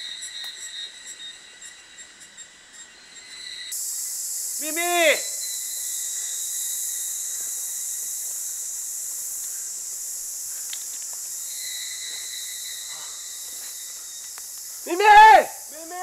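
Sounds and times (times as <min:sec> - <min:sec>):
insect chorus: 0:00.0 - 0:16.0
pure insect note: 0:00.0 - 0:16.0.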